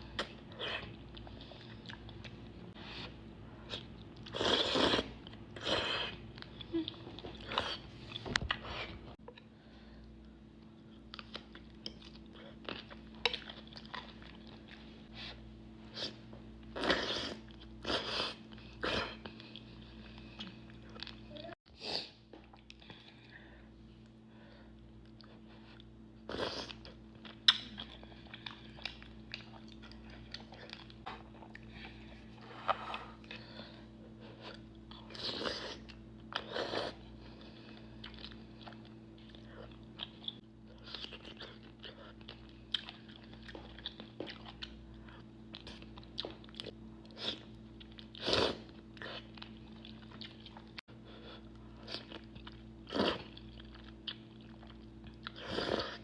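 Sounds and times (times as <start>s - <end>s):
person chewing crunchy food: 0.0s - 21.2s, 24.9s - 56.0s
steady low hum: 0.0s - 56.0s.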